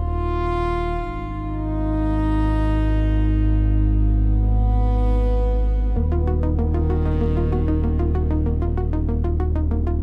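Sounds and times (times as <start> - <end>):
sustained low music chords: 0.0 - 10.0.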